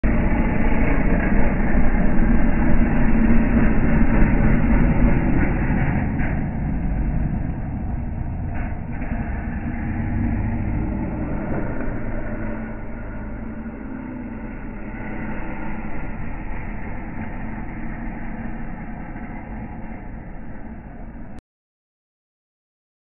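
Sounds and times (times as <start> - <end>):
snowmobile engine running hard: 0.0 - 21.4.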